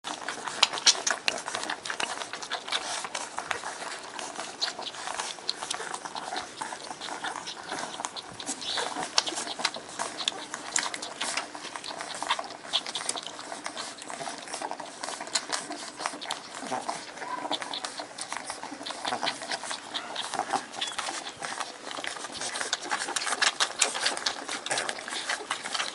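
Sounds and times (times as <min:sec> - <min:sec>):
puppies suckling: 0:00.0 - 0:25.9
puppies squeaking and whimpering: 0:00.1 - 0:25.9.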